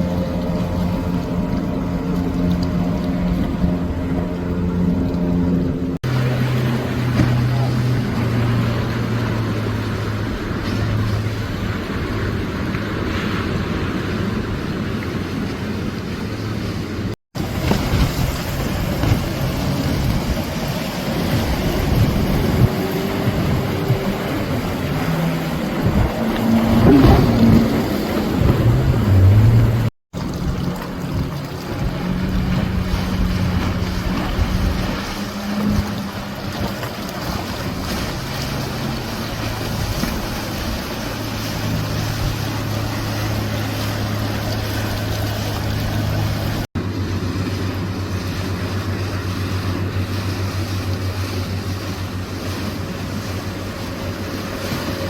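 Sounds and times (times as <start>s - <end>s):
wind on microphone: 0.0s - 46.7s
motorboat engines droning: 0.0s - 55.0s
wave wash: 0.0s - 55.0s.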